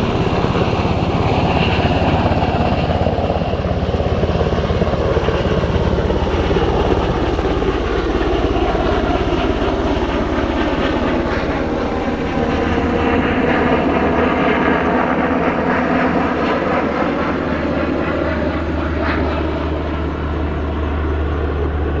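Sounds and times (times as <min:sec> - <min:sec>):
helicopter flying overhead: 0:00.0 - 0:22.0.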